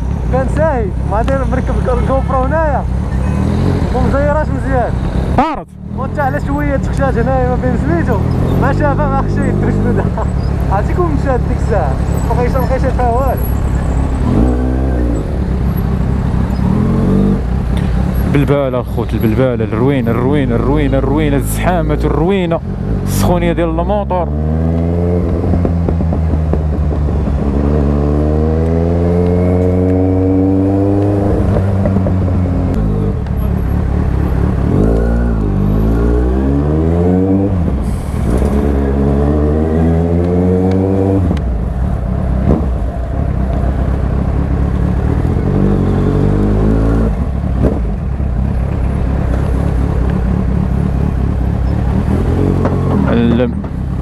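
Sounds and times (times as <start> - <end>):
motorcycle engine revving: 0.3 - 18.6, 20.0 - 54.0.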